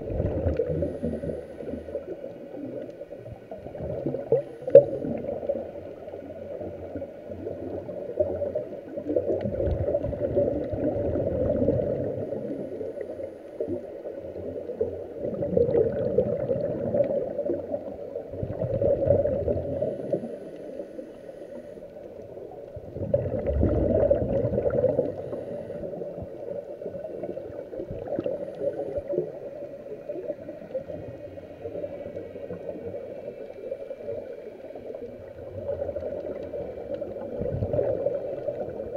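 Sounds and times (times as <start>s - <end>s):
regulator bubbling underwater: 0.0s - 21.2s, 21.9s - 38.9s.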